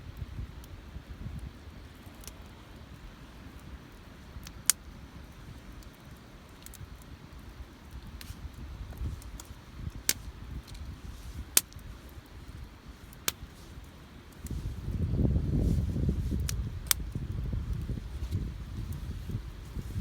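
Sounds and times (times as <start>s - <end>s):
campfire crackling: 0.0s - 20.0s
burning wood popping: 0.2s - 20.0s.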